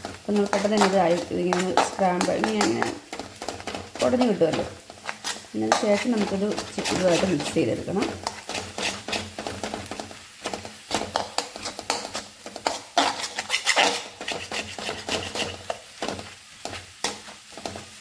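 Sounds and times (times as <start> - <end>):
spatula scraping metal pan: 0.0 - 18.0.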